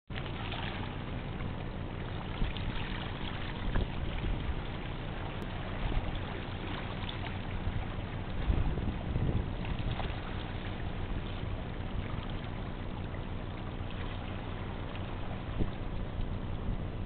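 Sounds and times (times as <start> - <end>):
water lapping against rocks: 0.1 - 17.0
water splashes: 0.1 - 17.0.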